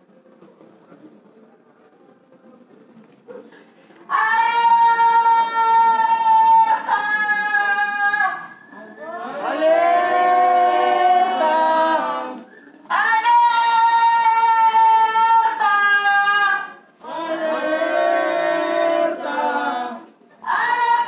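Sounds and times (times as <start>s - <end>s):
voices singing unaccompanied: 4.1s - 21.0s.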